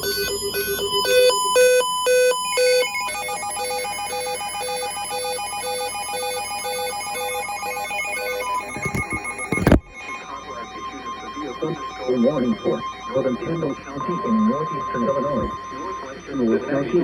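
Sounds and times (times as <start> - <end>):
electronic alert beeps: 0.0 - 17.0.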